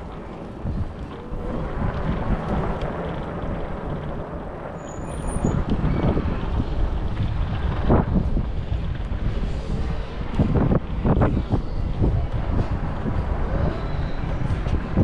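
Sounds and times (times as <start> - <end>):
road traffic noise: 0.0 - 15.0
wind rumble on microphone: 0.0 - 15.0.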